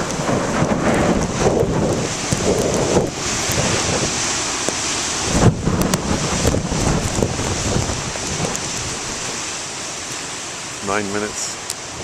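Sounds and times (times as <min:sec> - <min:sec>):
storm surf on rocky shore: 0:00.0 - 0:12.0
wave crashing: 0:00.0 - 0:12.0.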